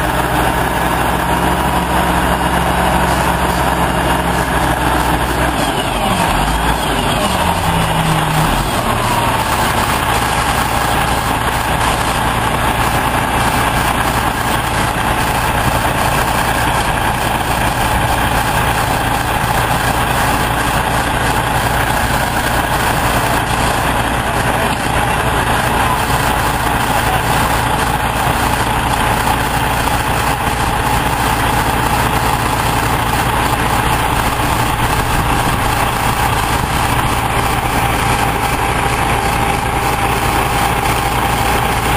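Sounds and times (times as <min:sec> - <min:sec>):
heavy diesel engines running: 0:00.0 - 0:41.9
mid-pitched machine whine: 0:00.0 - 0:41.9.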